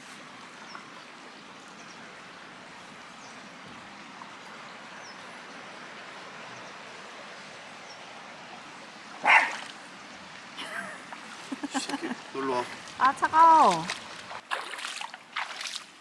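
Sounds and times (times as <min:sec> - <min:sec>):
mountain stream flowing over rocks: 0:00.0 - 0:16.0.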